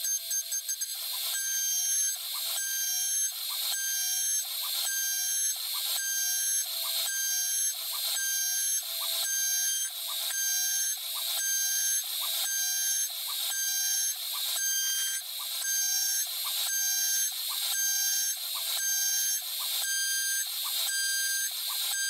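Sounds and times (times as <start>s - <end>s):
router whine cutting metal: 0.0s - 22.0s.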